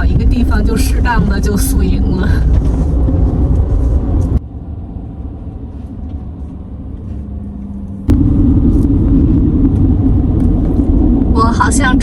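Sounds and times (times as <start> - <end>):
motorhome engine and road rumble: 0.0 - 12.0.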